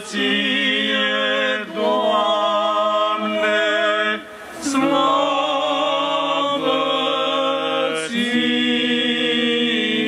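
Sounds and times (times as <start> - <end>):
choir chanting unaccompanied: 0.0 - 10.0.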